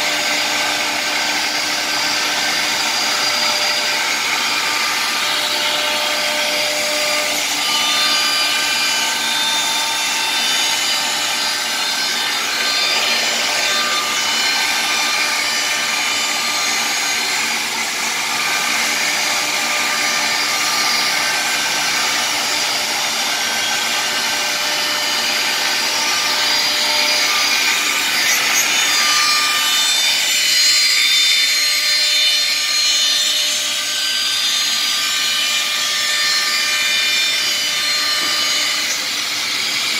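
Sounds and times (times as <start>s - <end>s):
router bit cutting wood panel: 0.0s - 39.9s
router spindle whining: 0.0s - 39.9s.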